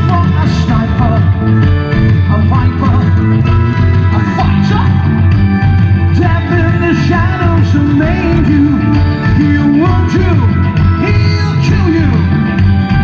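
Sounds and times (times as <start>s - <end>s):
live rock band: 0.0s - 13.0s
sliding melody line: 0.0s - 13.0s.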